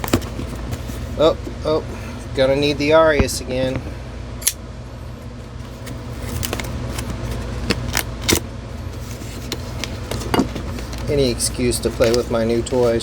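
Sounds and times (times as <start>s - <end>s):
air conditioner hum: 0.0s - 13.0s.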